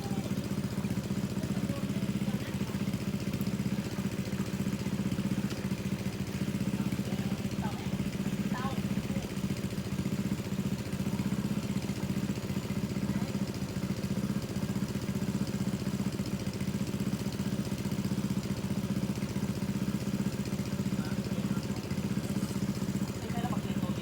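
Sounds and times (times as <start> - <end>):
water pump engine running: 0.0 - 24.0.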